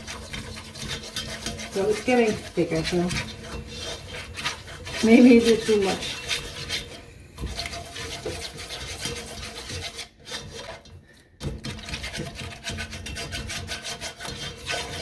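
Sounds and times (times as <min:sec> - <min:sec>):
whisk scraping a pan: 0:00.0 - 0:15.0.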